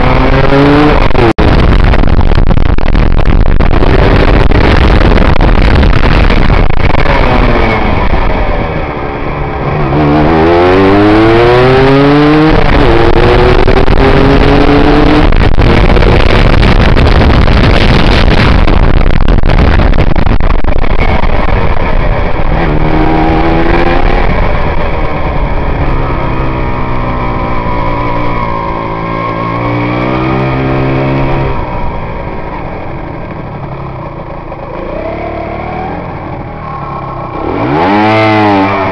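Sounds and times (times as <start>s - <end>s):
motorcycle engine revving: 0.0s - 38.9s
rushing wind: 0.0s - 38.9s.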